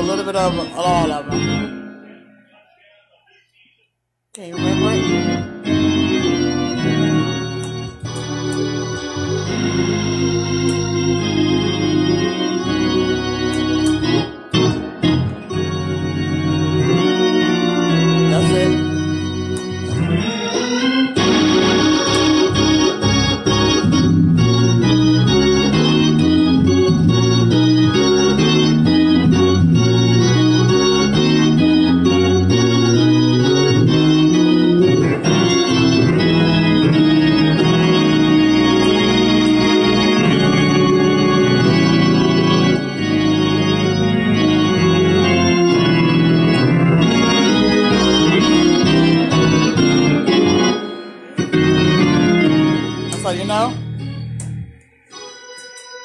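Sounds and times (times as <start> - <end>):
organ playing gospel chords: 0.0 - 56.0.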